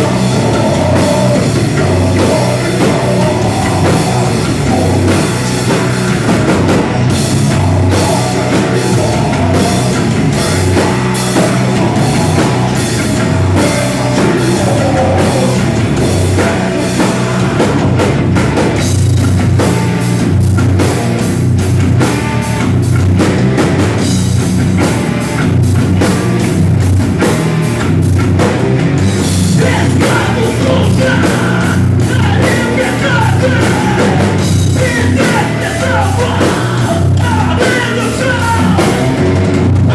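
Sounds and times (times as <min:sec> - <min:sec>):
drum kit beat: 0:00.0 - 0:39.9
heavy metal rock music: 0:00.0 - 0:39.9.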